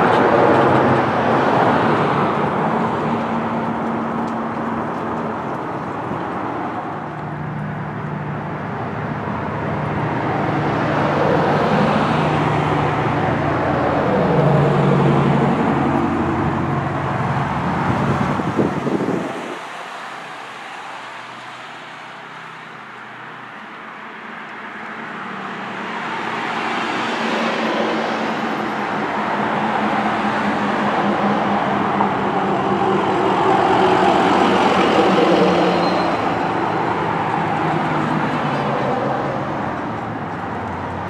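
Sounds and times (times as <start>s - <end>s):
road traffic: 0.0s - 41.0s
trucks approaching: 0.0s - 41.0s.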